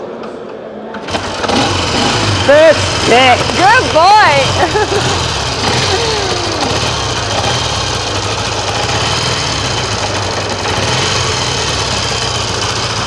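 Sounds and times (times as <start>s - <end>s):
motorcycle engine idling: 1.0s - 13.0s.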